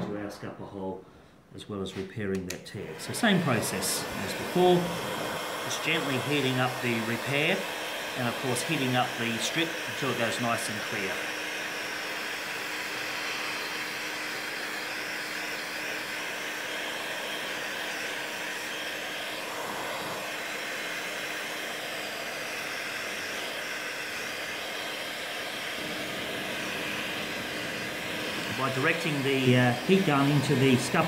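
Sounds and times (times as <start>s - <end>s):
heat gun blowing hot air: 2.8s - 31.0s.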